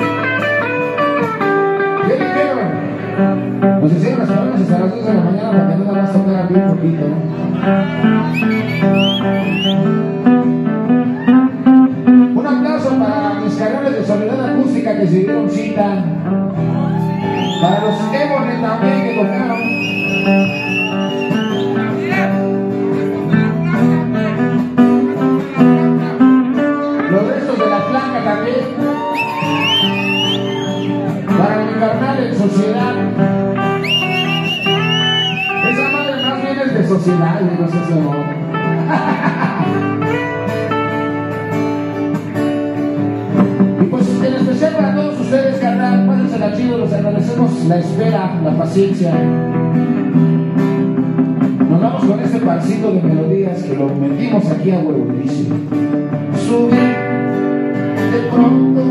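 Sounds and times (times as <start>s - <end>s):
acoustic guitar music: 0.0s - 58.9s.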